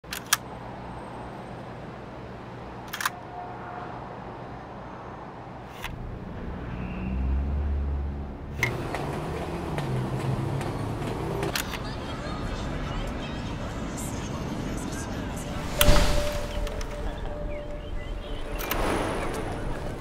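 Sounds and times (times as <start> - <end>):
low city hum: 0.0 - 20.0.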